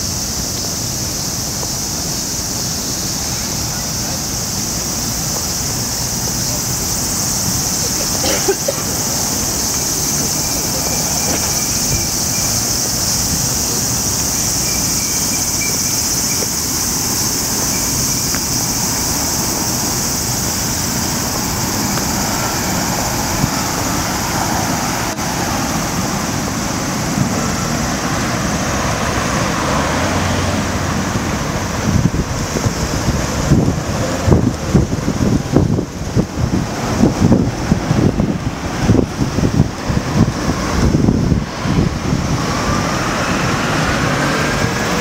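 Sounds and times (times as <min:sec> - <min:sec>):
cicada chorus buzzing: 0:00.0 - 0:45.0
city traffic noise: 0:00.0 - 0:45.0
wind buffeting microphone: 0:00.0 - 0:45.0.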